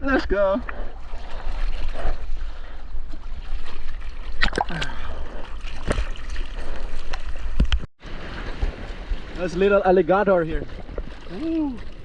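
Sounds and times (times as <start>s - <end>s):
low rumble of water on housing: 0.4s - 12.0s
water splashing from arm strokes: 1.0s - 12.0s.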